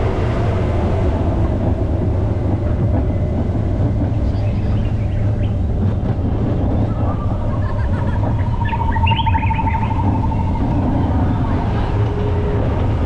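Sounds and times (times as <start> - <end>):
high pulsing squeal: 0.0 - 13.0
roller coaster rumbling on track: 0.0 - 13.0.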